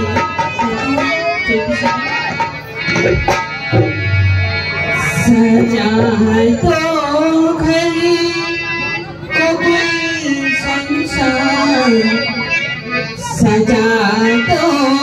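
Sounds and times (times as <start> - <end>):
woman singing into microphone: 0.0 - 2.4, 4.9 - 15.0
dholak drum strokes: 0.0 - 15.0
harmonium chords: 0.0 - 15.0.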